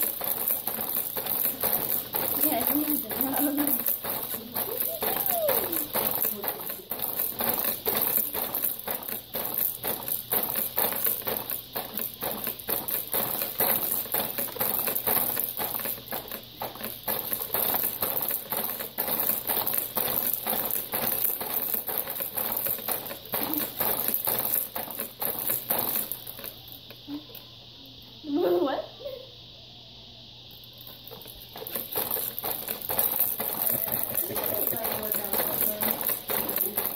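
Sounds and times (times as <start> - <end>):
baby bouncer rattling and clattering: 0.0 - 27.0, 30.7 - 36.9.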